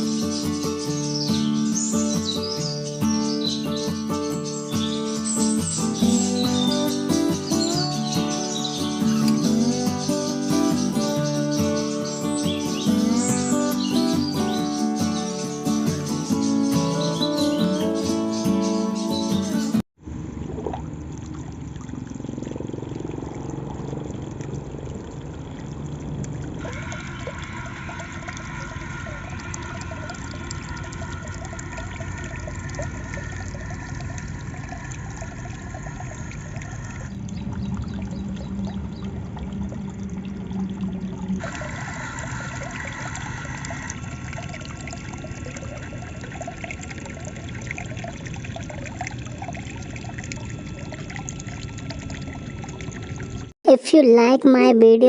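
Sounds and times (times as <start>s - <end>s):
water pouring and trickling: 0.0s - 53.6s.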